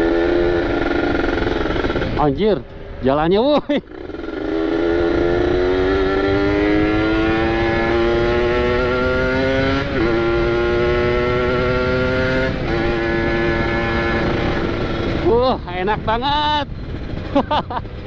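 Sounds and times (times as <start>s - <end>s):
two-stroke motorcycle engine: 0.0s - 3.0s, 3.6s - 18.0s.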